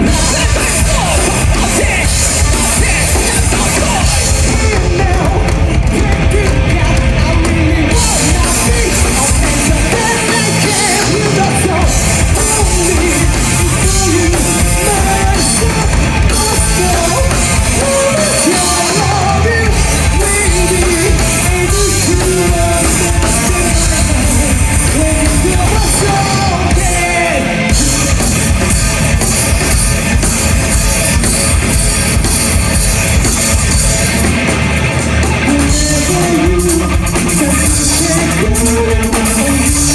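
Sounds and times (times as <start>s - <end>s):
person singing and shouting: 0.0s - 28.4s, 35.3s - 39.9s
bass guitar: 0.0s - 39.9s
drum kit: 0.0s - 39.9s
electric guitars: 0.0s - 39.9s.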